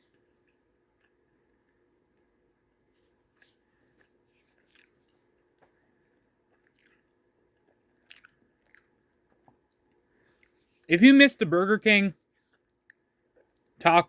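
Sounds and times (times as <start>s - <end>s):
chewing and crunching food: 0.0s - 10.9s, 12.2s - 13.8s.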